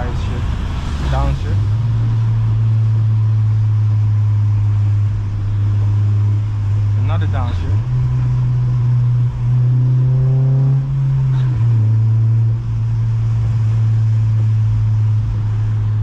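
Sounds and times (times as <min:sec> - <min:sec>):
car engine at high revs: 0:00.0 - 0:16.0
road noise: 0:00.0 - 0:16.0.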